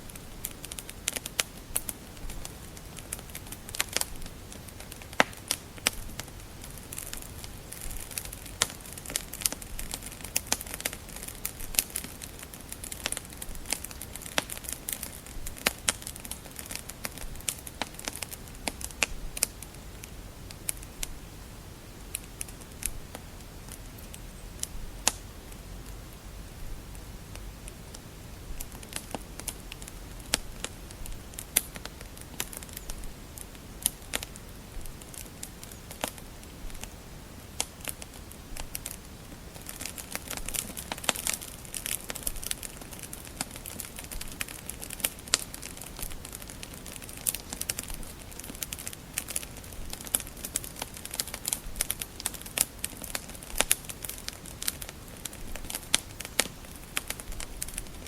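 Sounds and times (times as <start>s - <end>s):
low steady hiss: 0.0s - 58.0s
wood fire crackling: 0.0s - 58.0s.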